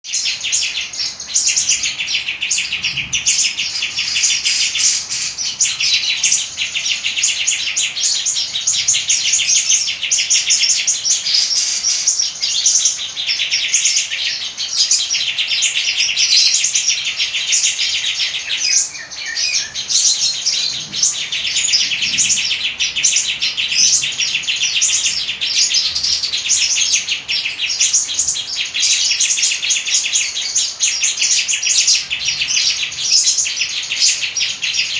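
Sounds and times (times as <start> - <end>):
caged bird trilling song: 0.0 - 34.9.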